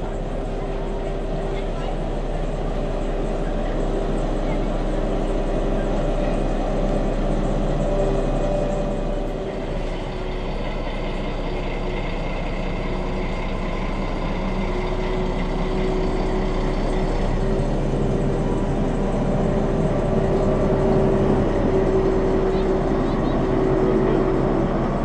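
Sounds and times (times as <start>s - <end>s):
diesel locomotive engine idling: 0.0s - 25.0s.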